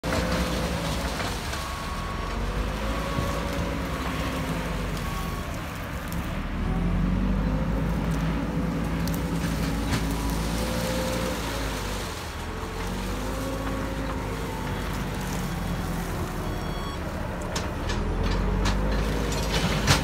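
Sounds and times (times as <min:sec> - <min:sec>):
diesel engine under load: 0:00.0 - 0:20.0.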